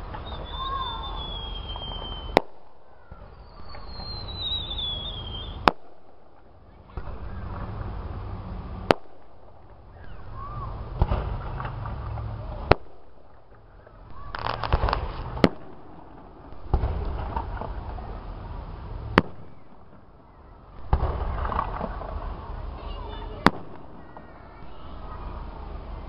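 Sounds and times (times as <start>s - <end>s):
fireworks bangs with rumble: 0.0s - 26.0s
fireworks crackling: 0.0s - 26.0s.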